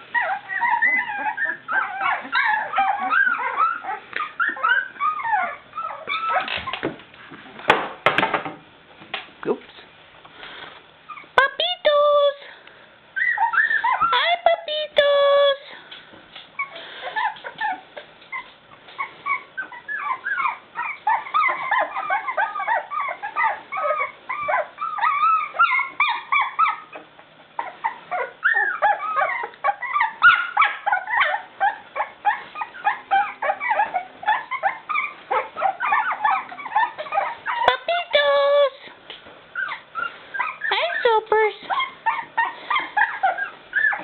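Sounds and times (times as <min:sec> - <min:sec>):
puppies whining and yipping: 0:00.0 - 0:07.0, 0:11.0 - 0:12.4, 0:13.1 - 0:15.8, 0:16.5 - 0:44.0.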